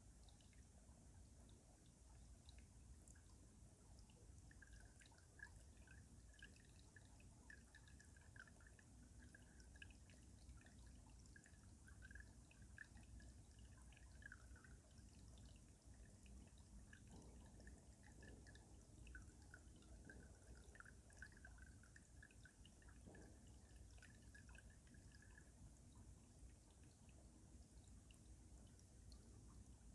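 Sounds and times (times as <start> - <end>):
water drips and plinks: 0.0 - 29.9.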